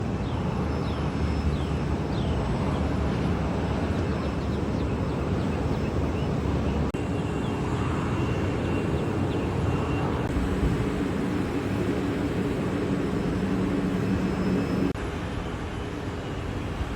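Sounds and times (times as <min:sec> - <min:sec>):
airliner engine noise: 0:00.0 - 0:16.9.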